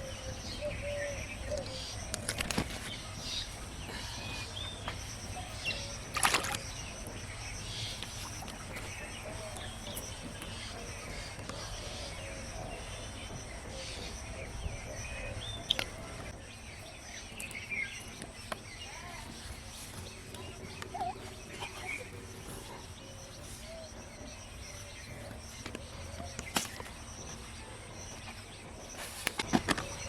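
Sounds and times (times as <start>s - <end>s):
birds chirping: 0.0s - 30.0s
steady low rumble: 2.9s - 29.0s.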